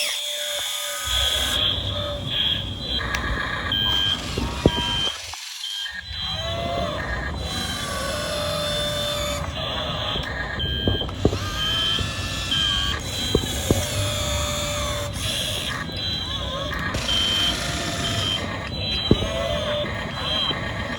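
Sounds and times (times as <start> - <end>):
model excavator motors whining: 0.0 - 20.9.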